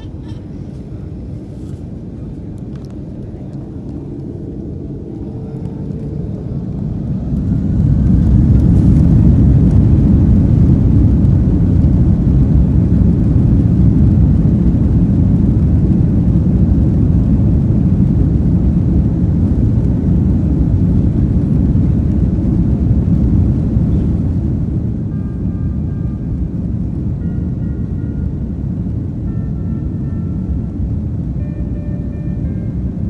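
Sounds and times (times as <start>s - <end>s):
jet engines low rumble: 0.0s - 33.0s.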